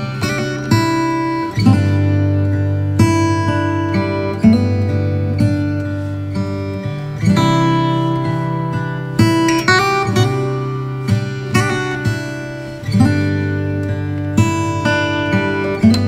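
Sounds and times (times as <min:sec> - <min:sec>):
acoustic guitar strummed: 0:00.0 - 0:16.0.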